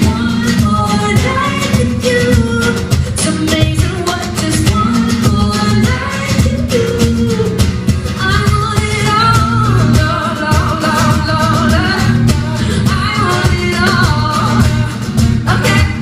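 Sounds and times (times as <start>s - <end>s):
strummed guitar: 0.0s - 16.0s
woman singing with vibrato: 0.0s - 16.0s.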